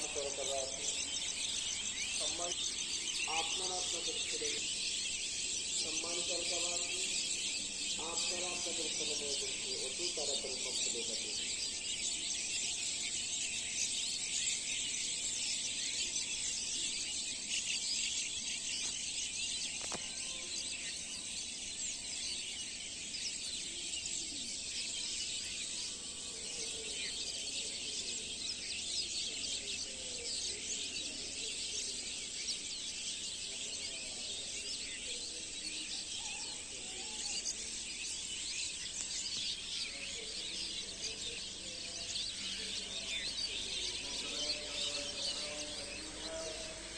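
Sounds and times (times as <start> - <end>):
many small birds chirping: 0.0 - 46.9.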